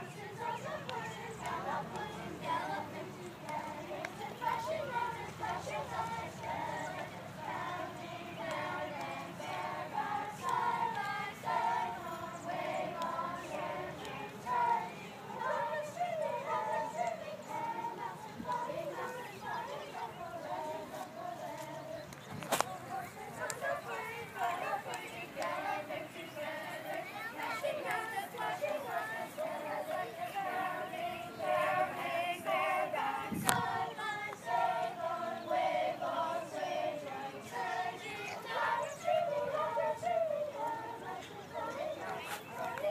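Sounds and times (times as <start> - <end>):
group of voices singing: 0.0 - 42.9.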